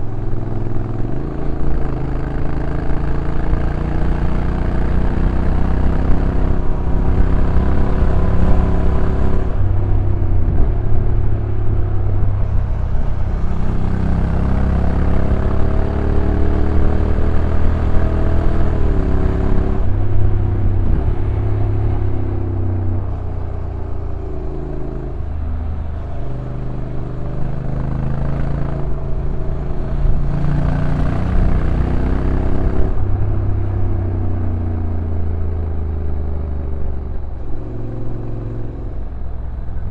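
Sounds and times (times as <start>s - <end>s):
motorcycle engine while riding: 0.0s - 39.9s
road and wind noise: 0.0s - 39.9s.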